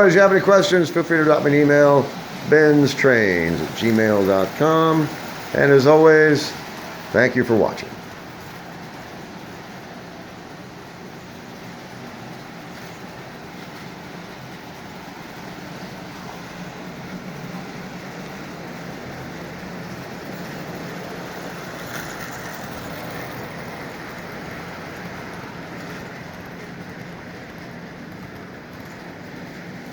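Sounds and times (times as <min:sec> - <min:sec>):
model train motor hum: 0:00.0 - 0:29.9
wheels rumbling on rails: 0:00.0 - 0:29.9.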